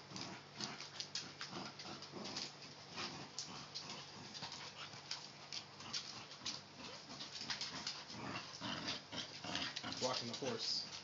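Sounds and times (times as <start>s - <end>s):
dog claws clicking and scuffling: 0.0s - 11.0s.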